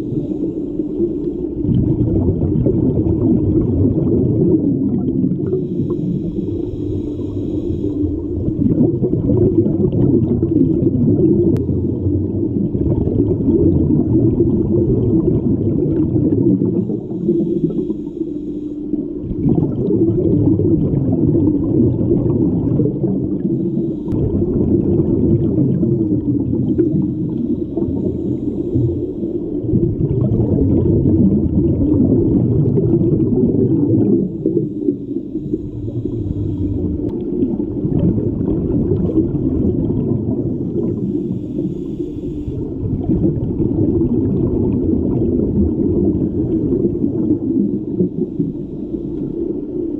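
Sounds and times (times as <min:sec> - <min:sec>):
hissy bubbling: 0:00.0 - 0:49.9
muffled underwater rumble: 0:00.0 - 0:49.9.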